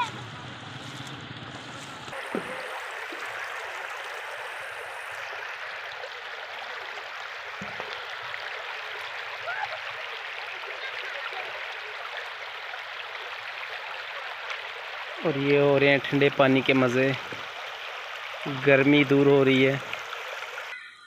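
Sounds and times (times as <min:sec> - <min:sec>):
river water rushing over stones: 0:00.8 - 0:20.7.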